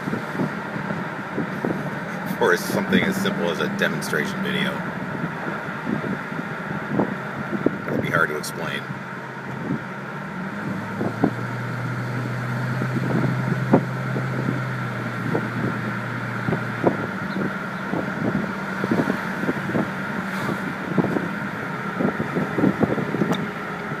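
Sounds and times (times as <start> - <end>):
car engine cruising: 0.0 - 24.0
wind buffeting microphone: 0.0 - 24.0.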